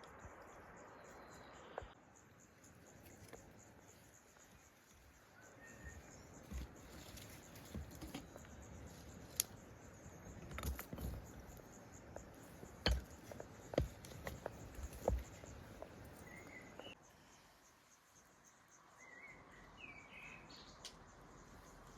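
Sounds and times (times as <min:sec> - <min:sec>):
bird chirp: 0:00.0 - 0:21.9.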